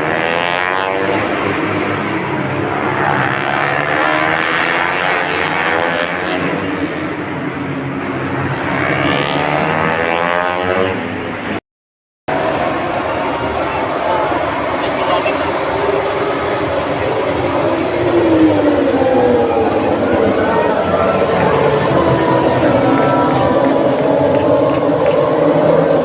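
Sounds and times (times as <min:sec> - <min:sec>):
engine noise rising and falling: 0:00.0 - 0:11.6, 0:12.3 - 0:26.0.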